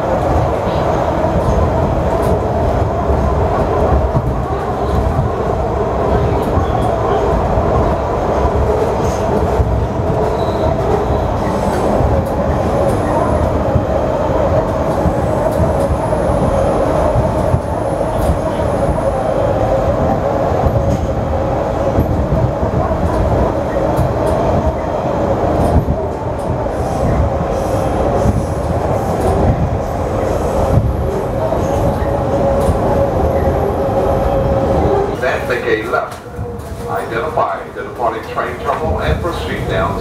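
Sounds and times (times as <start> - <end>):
wheels rumbling on rail: 0.0 - 40.0.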